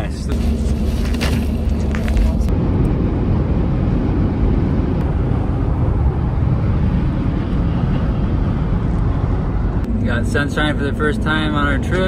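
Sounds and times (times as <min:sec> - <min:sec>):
road and tyre noise inside car: 0:00.0 - 0:12.0.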